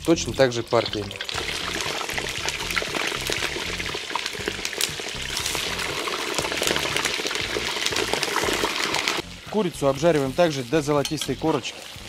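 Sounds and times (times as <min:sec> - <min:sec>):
background music with bass: 0:00.0 - 0:12.0
oil sizzling and crackling: 0:00.0 - 0:12.0.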